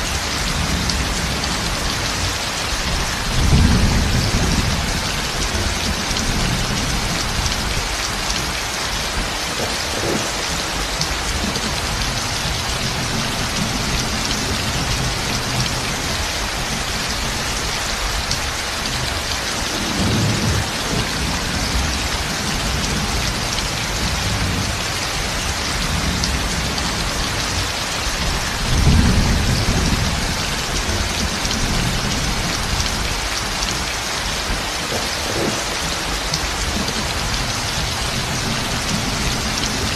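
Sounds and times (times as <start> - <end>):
heavy rain pouring: 0.0 - 39.9
thunder rolling: 0.0 - 39.9.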